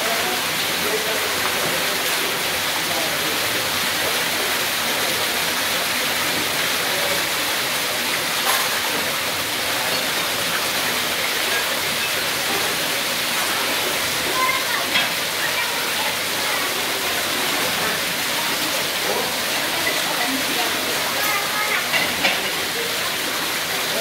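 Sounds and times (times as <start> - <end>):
waterfall splashing into pool: 0.0 - 24.0.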